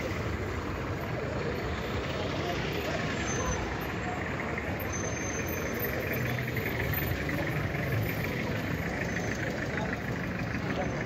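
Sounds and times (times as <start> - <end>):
traffic hum: 0.0 - 11.0.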